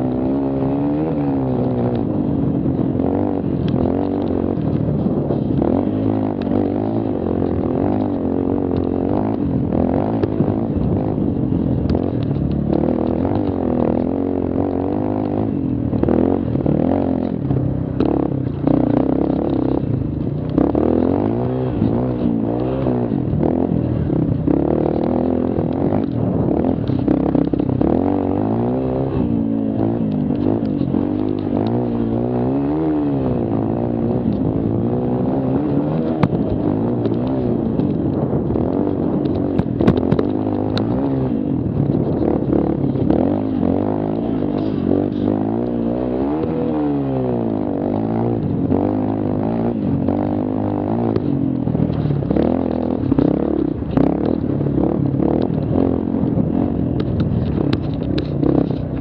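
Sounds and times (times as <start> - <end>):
quad engine revving: 0.0 - 59.0.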